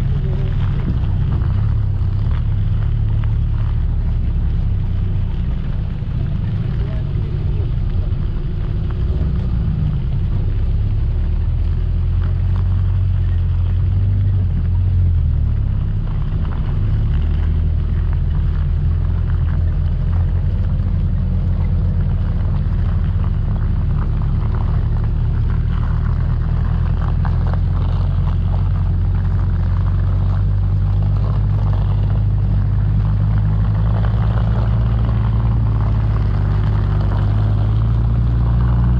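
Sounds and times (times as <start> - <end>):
off-road vehicle engine running: 0.0 - 38.9.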